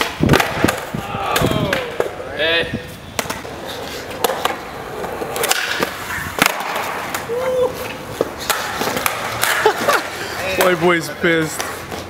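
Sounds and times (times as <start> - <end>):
skateboard clacking on pavement: 0.0 - 2.2, 3.2 - 7.4, 8.0 - 12.0
skateboard wheels rolling on concrete: 0.0 - 12.0.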